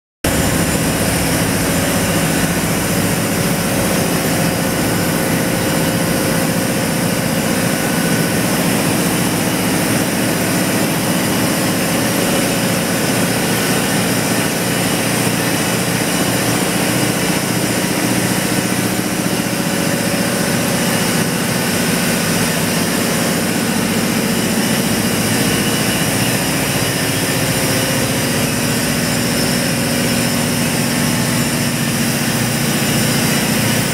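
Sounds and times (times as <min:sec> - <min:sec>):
gas compressors running: 0:00.2 - 0:33.9
steady low hum: 0:00.2 - 0:33.9.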